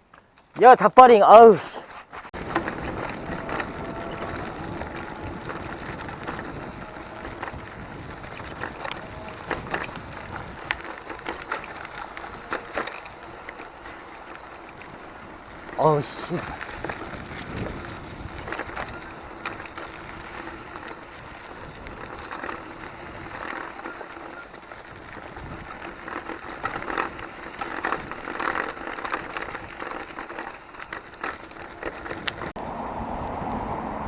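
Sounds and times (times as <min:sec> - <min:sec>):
bike rattling clicks and knocks: 0:00.0 - 0:32.6
bike tyres rolling on dirt: 0:00.0 - 0:32.6.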